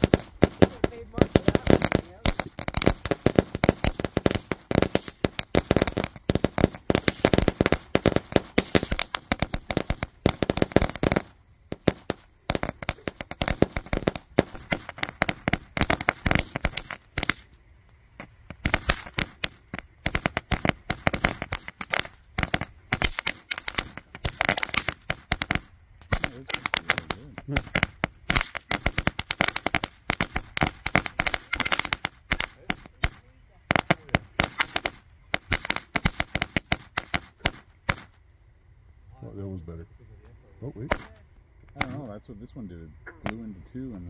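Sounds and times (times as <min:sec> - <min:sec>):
ground firework crackling: 0:00.0 - 0:38.7, 0:39.5 - 0:44.0.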